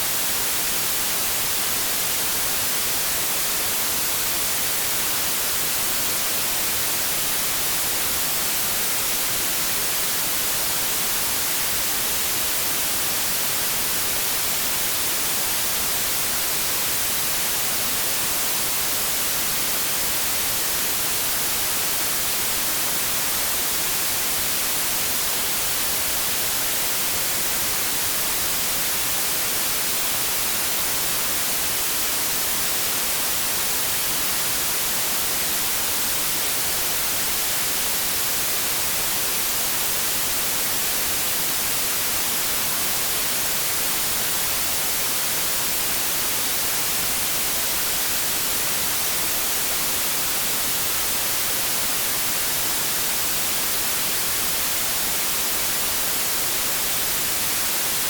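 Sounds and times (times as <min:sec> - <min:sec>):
white noise static hiss: 0:00.0 - 0:58.0.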